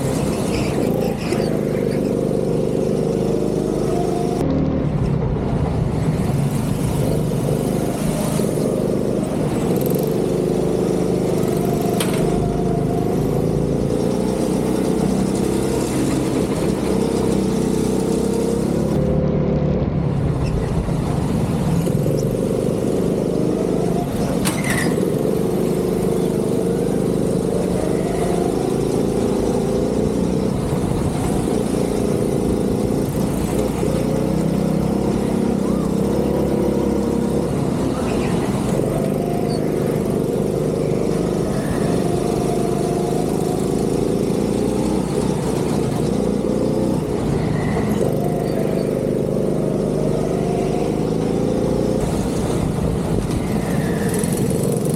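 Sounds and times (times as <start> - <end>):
go-kart engine revving: 0.0 - 5.0, 5.7 - 54.9.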